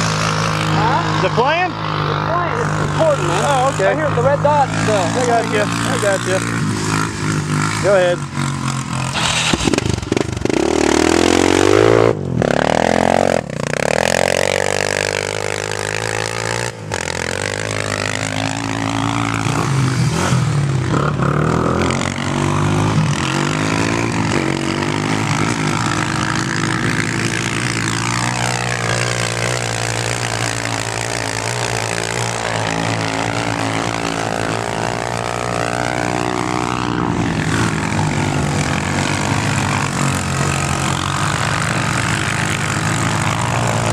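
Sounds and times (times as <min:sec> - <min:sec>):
low engine drone: 0:00.0 - 0:43.9
quad bike engines revving: 0:00.0 - 0:43.9.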